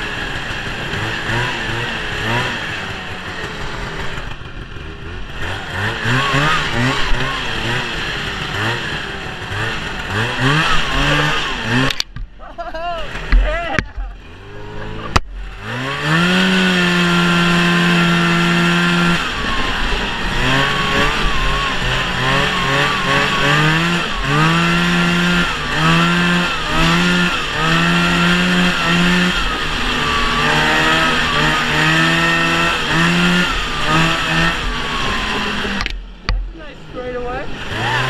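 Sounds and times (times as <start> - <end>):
snowmobile engine revving: 0.0 - 38.0.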